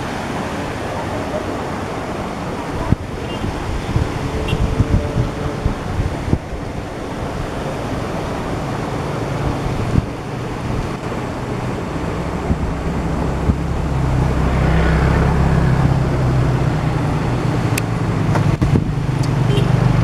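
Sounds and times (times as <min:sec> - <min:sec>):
vehicle engine humming: 0:00.0 - 0:20.0
wind noise on microphone: 0:01.6 - 0:20.0.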